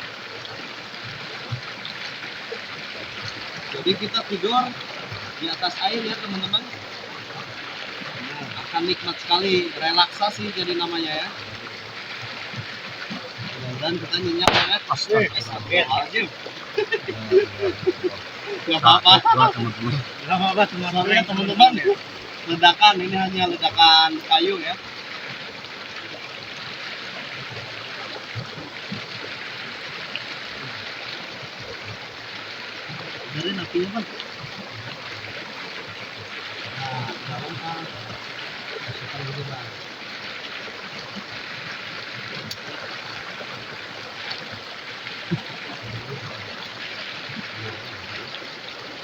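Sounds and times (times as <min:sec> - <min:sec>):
river water flowing over stones: 0:00.0 - 0:49.0.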